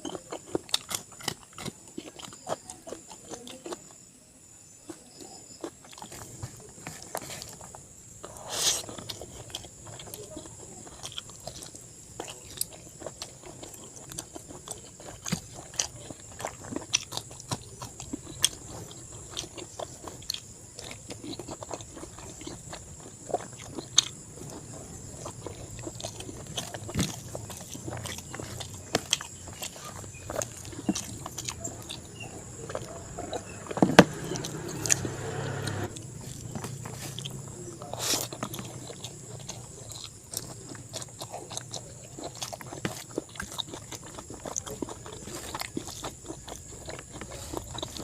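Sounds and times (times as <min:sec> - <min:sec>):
close chewing with wet smacks: 0:00.0 - 0:04.1, 0:04.8 - 0:48.0.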